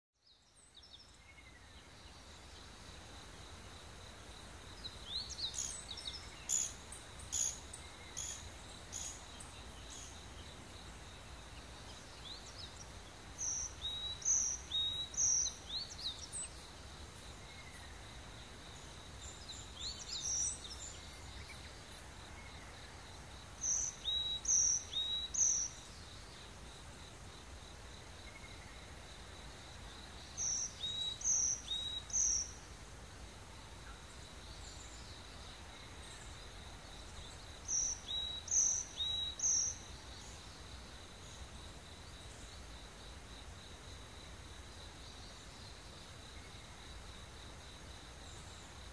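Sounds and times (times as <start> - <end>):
high insect drone: 0.5 - 48.9.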